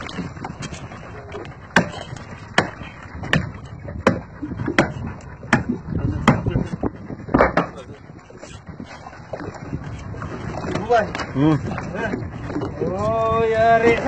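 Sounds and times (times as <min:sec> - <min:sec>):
paddle whacking fish: 0:00.0 - 0:14.0.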